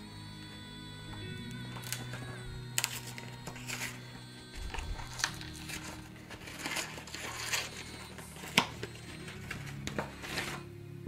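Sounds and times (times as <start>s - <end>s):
plastic bag crinkling: 1.7s - 10.6s.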